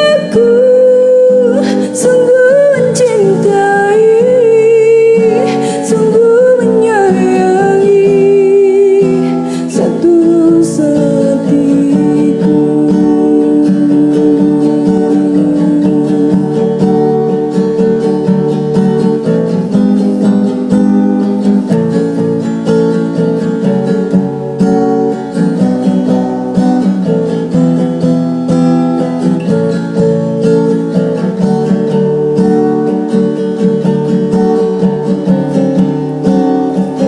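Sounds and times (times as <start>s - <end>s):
guitar strumming chords: 0.0s - 37.0s.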